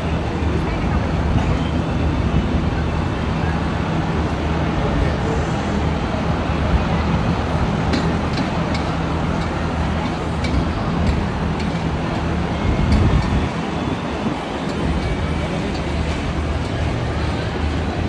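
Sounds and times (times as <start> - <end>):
market background noise: 0.0 - 18.0.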